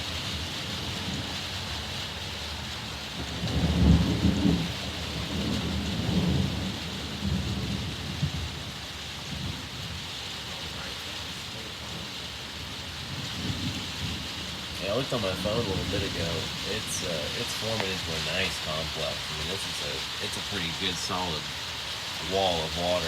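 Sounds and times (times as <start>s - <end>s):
steady rain: 0.0s - 23.0s
thunder rumbling: 0.0s - 23.0s.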